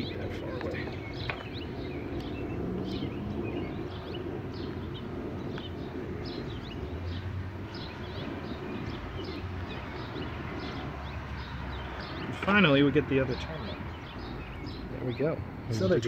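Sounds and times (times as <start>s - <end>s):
low background rumble: 0.0s - 16.0s
small birds chirping: 0.0s - 16.0s.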